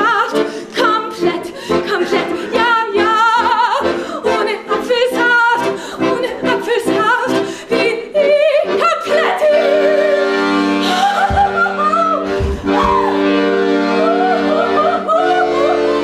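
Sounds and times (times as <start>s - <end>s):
piano accordion chords: 0.0s - 16.0s
woman singing with vibrato: 0.0s - 16.0s.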